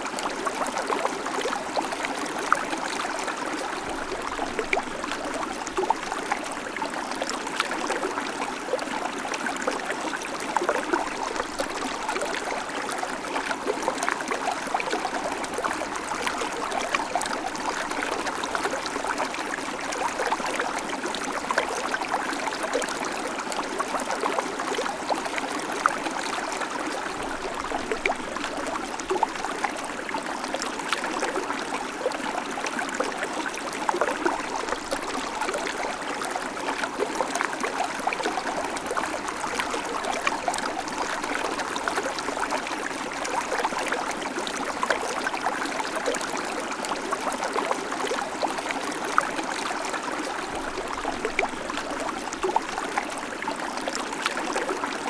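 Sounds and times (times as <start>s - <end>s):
creek water running over stones: 0.0s - 55.0s.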